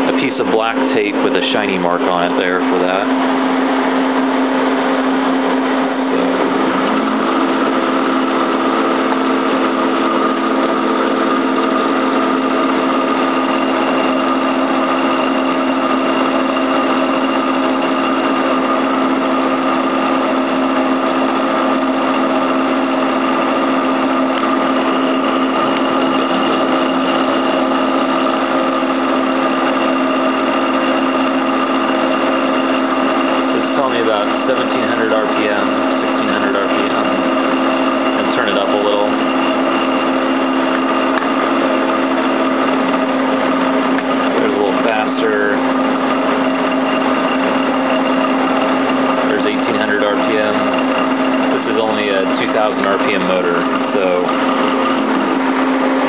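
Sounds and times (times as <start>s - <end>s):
servo motor humming: 0.0s - 56.0s.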